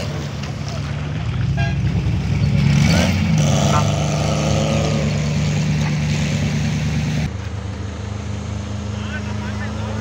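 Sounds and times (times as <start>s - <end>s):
off-road vehicle engine running: 0.0s - 10.0s.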